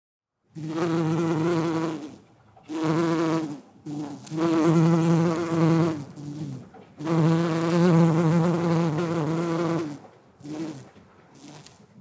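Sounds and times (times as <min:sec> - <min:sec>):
bumblebee buzzing: 0:00.5 - 0:11.8.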